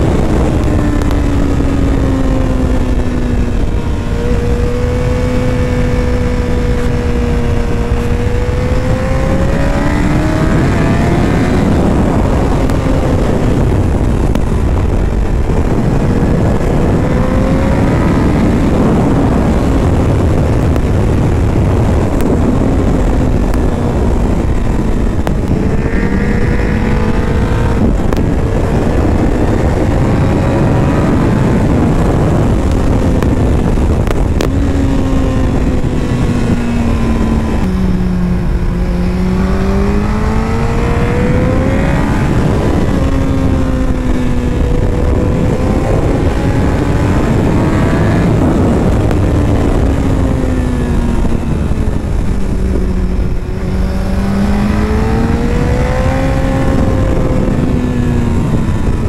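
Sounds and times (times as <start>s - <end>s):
motorcycle engine accelerating: 0.0s - 59.0s
wind noise rushing: 0.0s - 59.0s.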